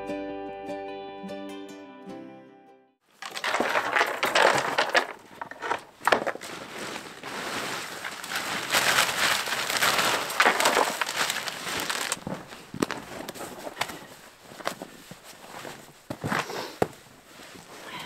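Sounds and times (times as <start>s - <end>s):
crunching and rustling of gear: 3.1s - 18.0s.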